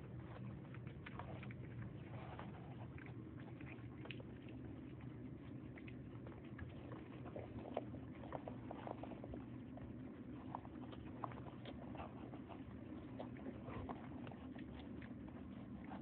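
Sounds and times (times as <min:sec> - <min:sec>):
puppies eating from bowl: 0:00.0 - 0:16.0
steady low hum: 0:00.0 - 0:16.0.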